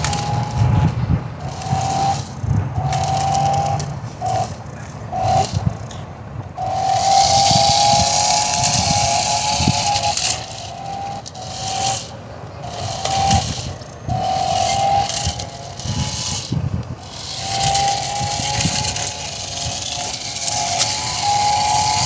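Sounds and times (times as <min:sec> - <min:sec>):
rc car motor whining: 0:00.0 - 0:22.0.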